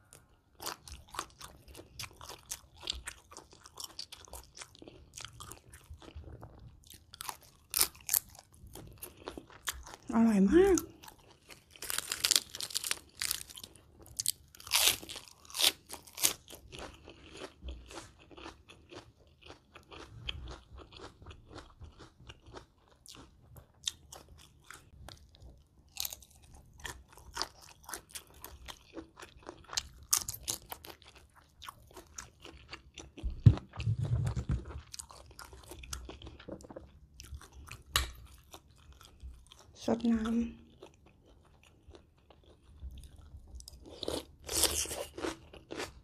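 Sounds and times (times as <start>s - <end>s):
crunching and chewing salad: 0.0s - 46.0s.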